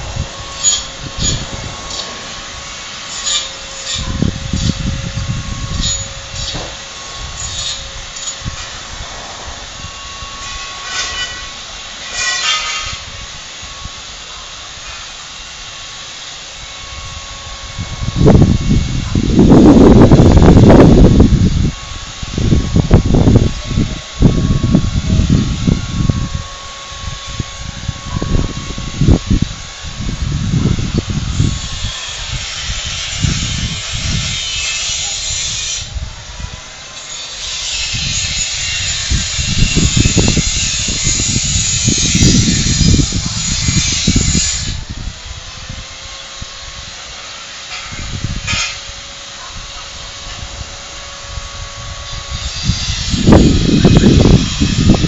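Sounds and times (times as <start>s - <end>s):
wind buffeting microphone: 0.0s - 11.9s, 16.6s - 47.2s, 47.8s - 55.0s.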